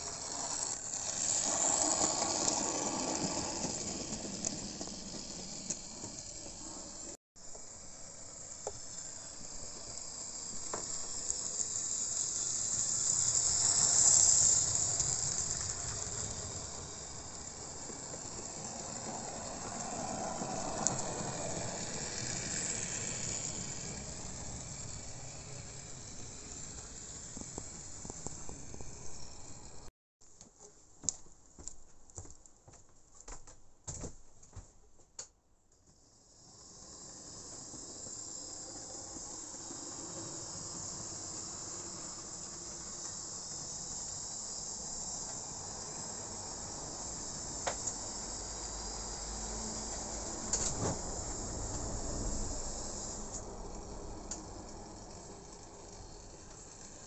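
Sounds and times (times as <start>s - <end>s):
model train whirring on track: 0.0s - 29.9s, 35.9s - 57.0s.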